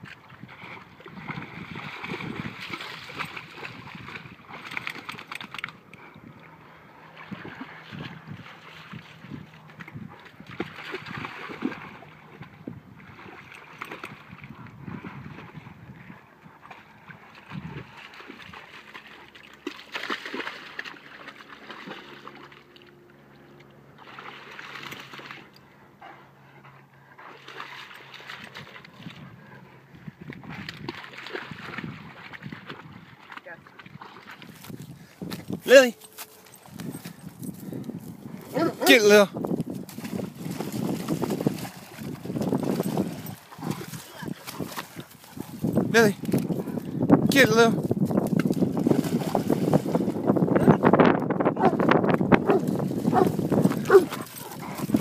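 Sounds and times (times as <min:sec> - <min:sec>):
water sloshing and splashing: 0:00.0 - 0:25.8, 0:26.7 - 0:47.2, 0:47.8 - 0:55.0.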